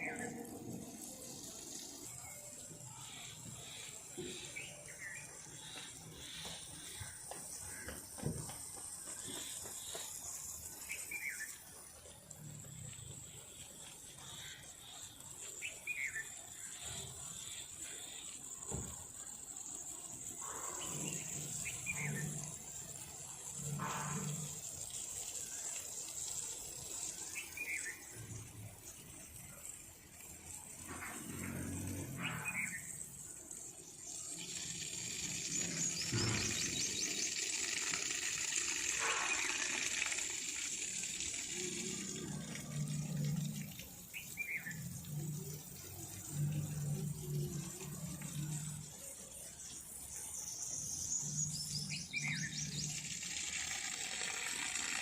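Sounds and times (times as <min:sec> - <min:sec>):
animal calls and chirps: 0:00.0 - 0:55.0
high-pitched insect drone: 0:00.0 - 0:55.0
water running and splashing: 0:00.0 - 0:55.0.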